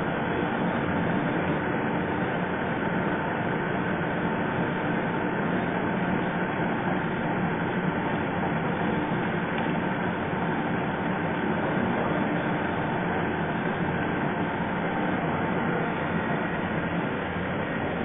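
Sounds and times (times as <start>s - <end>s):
lathe machine hum: 0.0s - 18.0s.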